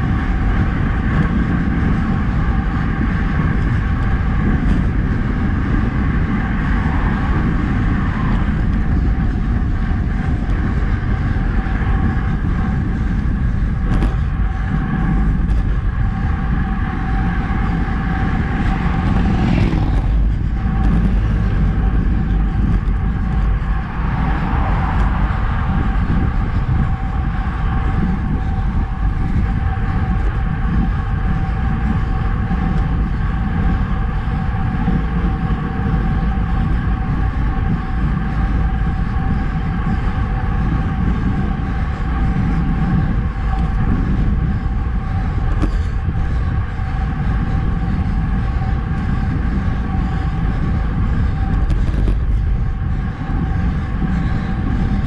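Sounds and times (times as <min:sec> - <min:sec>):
tyres humming on asphalt: 0:00.0 - 0:55.0
wind rushing over microphone: 0:00.0 - 0:55.0.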